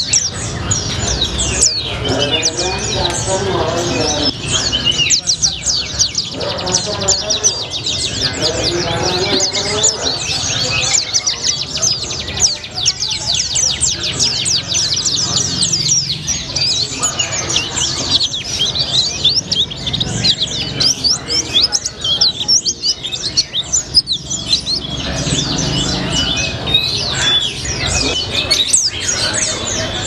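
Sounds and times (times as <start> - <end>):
bird singing high chirps: 0.0 - 30.0.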